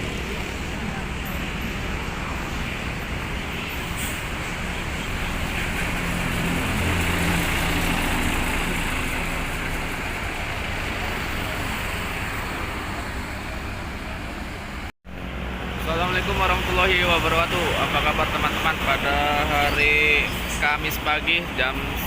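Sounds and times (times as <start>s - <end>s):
road traffic: 0.0s - 22.0s
vehicle engine hum: 0.0s - 22.0s.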